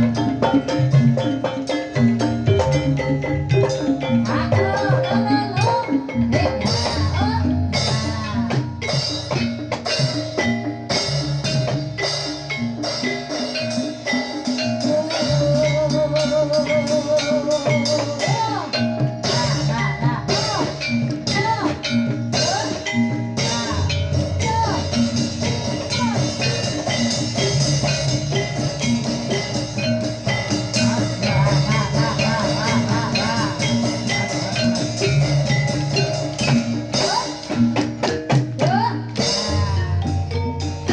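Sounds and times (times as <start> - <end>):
drum rhythm: 0.0 - 40.9
held melodic line: 0.0 - 40.9
struck pitched percussion: 0.0 - 40.9.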